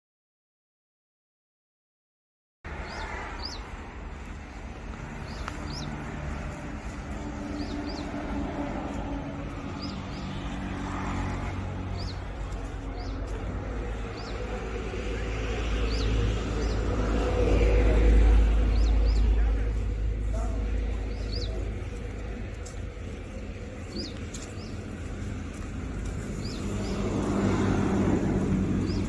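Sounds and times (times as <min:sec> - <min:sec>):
birds chirping: 0:02.7 - 0:29.0
diesel truck engine rumbling: 0:02.7 - 0:29.0.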